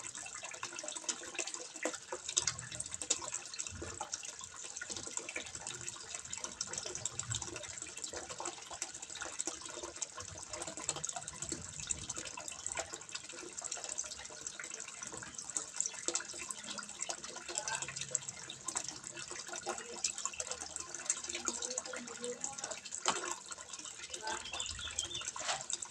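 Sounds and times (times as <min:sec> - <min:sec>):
water trickling into pond: 0:00.0 - 0:25.9.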